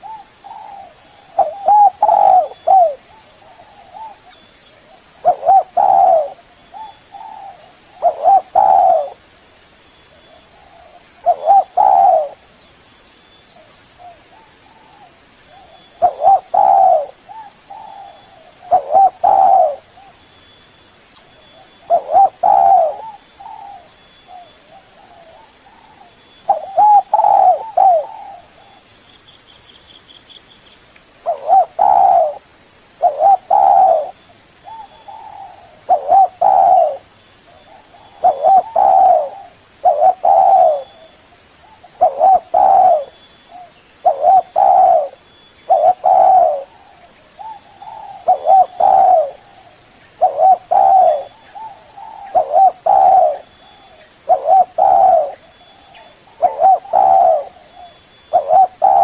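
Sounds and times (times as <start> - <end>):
dove cooing: 0.0 - 9.3, 10.3 - 12.5, 14.0 - 20.2, 21.4 - 28.9, 31.2 - 32.4, 33.0 - 59.0.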